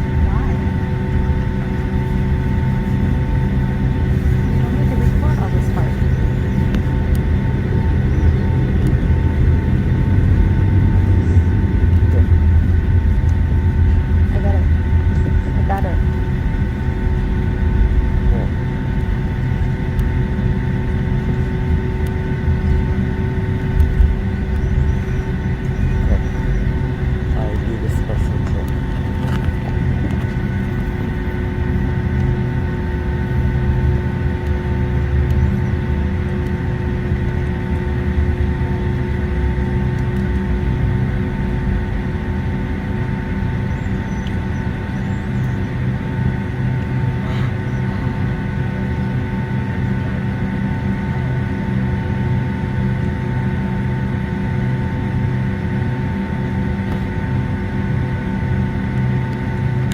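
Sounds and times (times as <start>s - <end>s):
jet engines rumbling and whining: 0.0s - 59.9s.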